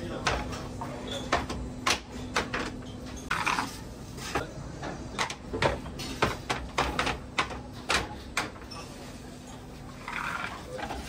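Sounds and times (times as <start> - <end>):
dishes clacking and scraping: 0.2 - 11.0.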